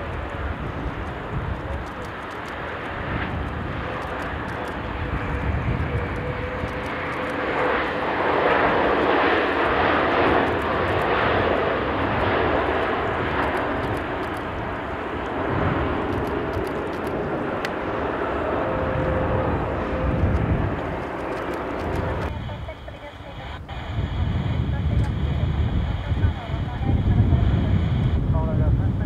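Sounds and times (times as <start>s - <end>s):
jet noise rushing: 0.0s - 28.3s
jet engine whine: 0.0s - 29.0s.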